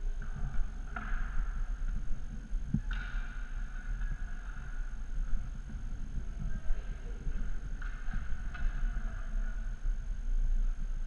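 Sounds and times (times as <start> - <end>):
skate wheels rolling on floor: 0.0 - 11.0.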